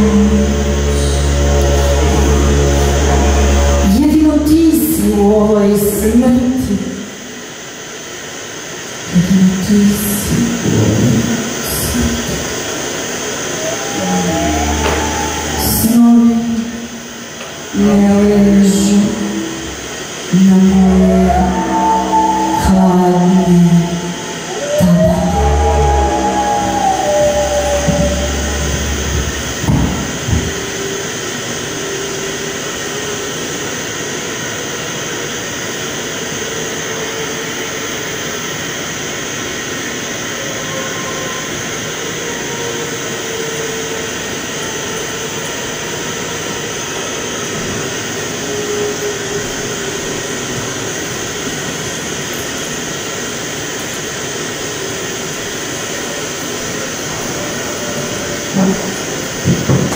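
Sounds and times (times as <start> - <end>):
faint sustained tones: 0.0 - 59.9
noisy rumbling drone: 0.0 - 59.9.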